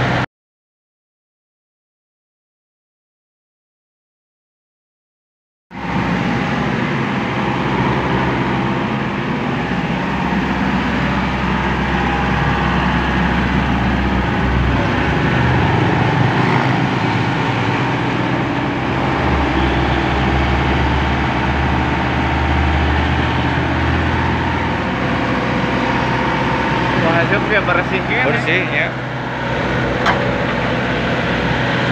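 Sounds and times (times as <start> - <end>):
excavator diesel engine running: 0.0 - 0.2, 5.8 - 31.9.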